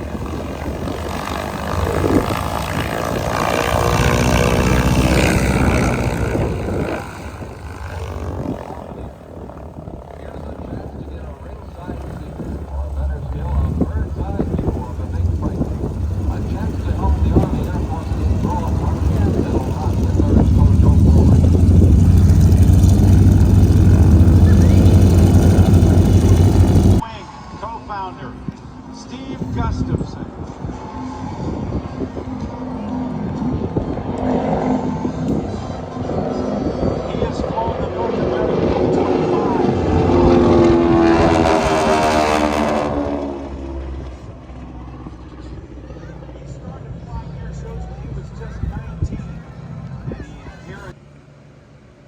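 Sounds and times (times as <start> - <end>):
low engine drone: 0.0 - 27.5, 28.2 - 52.0
aircraft passing overhead: 0.0 - 52.0.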